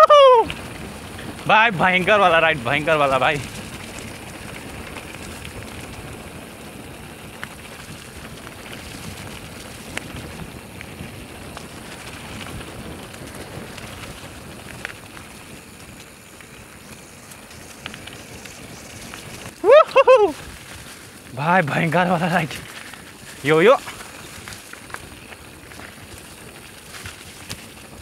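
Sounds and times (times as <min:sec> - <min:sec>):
bike rattling over bumps: 0:00.0 - 0:28.0
bike tyres crunching on gravel: 0:00.0 - 0:28.0.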